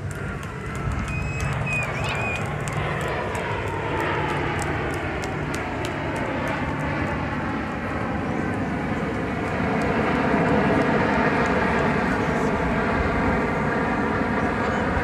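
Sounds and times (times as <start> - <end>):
jet flying overhead: 0.0 - 15.0.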